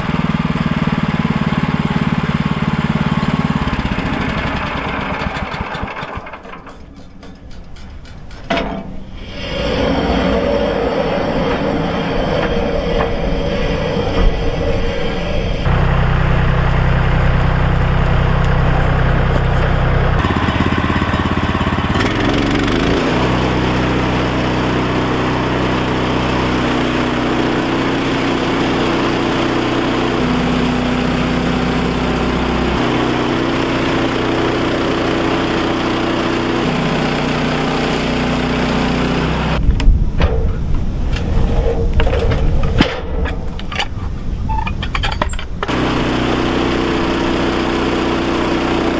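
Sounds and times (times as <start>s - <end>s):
small engine running: 0.0s - 7.0s, 9.2s - 48.9s.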